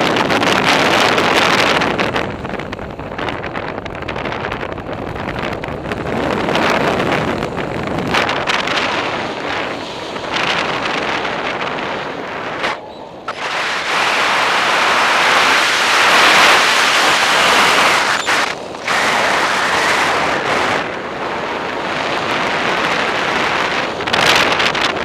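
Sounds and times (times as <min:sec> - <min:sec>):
wind noise on microphone: 0:00.0 - 0:25.0.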